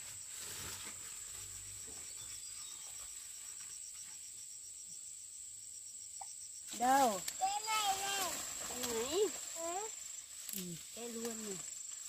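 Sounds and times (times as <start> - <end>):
faint rustles: 0.0 - 4.4, 6.7 - 12.0
insect high-pitched trill: 0.0 - 12.0
insect pulsed chirping: 1.2 - 12.0.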